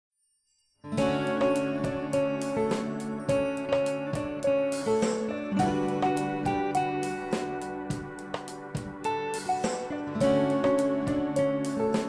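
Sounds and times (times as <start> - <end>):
strummed guitar chords: 0.9 - 12.0.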